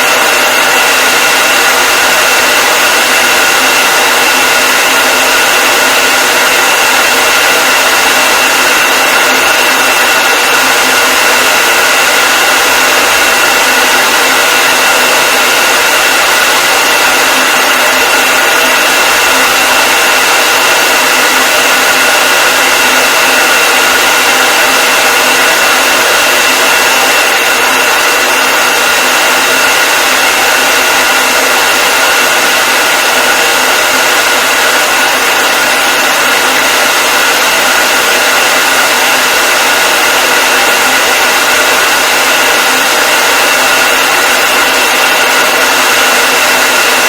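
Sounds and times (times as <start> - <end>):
hair dryer running: 0.0 - 47.0.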